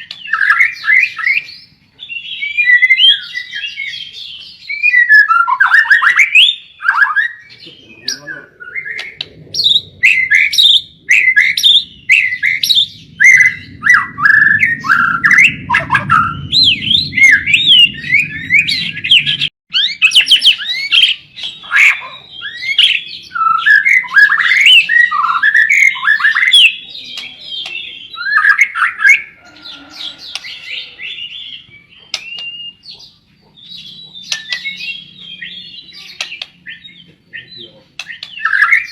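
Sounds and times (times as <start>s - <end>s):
songbird singing whistles and chirps: 0.0s - 38.9s.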